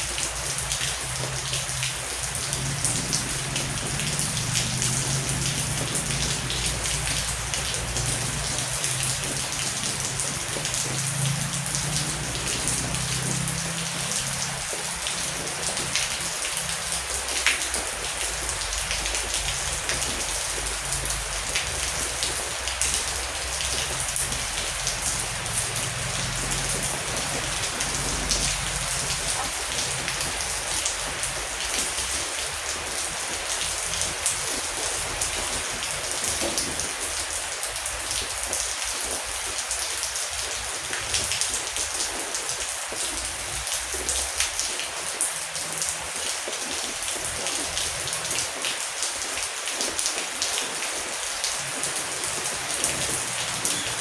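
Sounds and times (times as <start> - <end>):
heavy rain falling: 0.0 - 54.0
raindrops ticking on a surface: 0.0 - 54.0.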